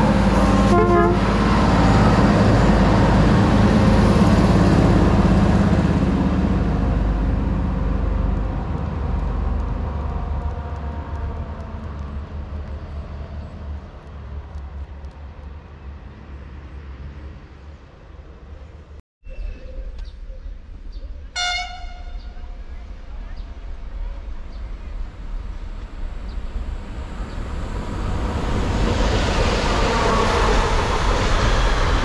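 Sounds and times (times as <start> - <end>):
passenger train passing: 0.0 - 19.0, 20.6 - 32.0.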